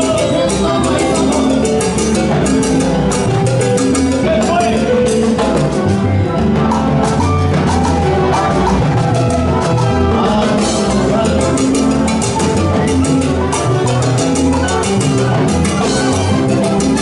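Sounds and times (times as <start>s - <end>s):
live salsa band playing: 0.0s - 17.0s.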